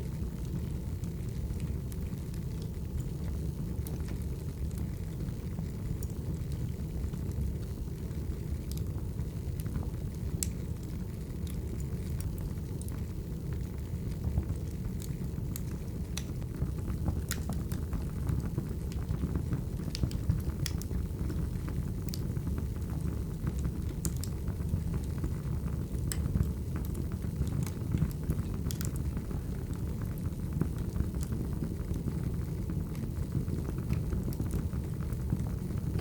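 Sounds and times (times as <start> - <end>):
low rumble of burning logs: 0.0 - 36.0
wood fire crackling: 0.0 - 36.0
fire pops and snaps: 0.1 - 36.0.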